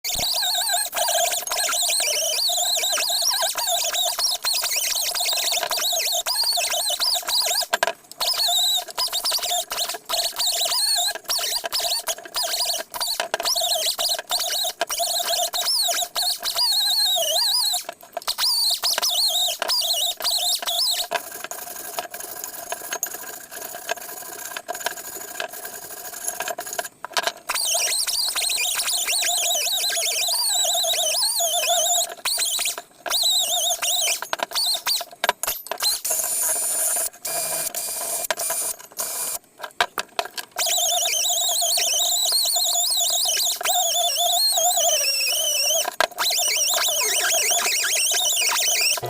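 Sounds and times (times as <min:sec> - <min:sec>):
sander squealing on steel: 0:00.1 - 0:21.2, 0:27.5 - 0:39.4, 0:40.6 - 0:49.0.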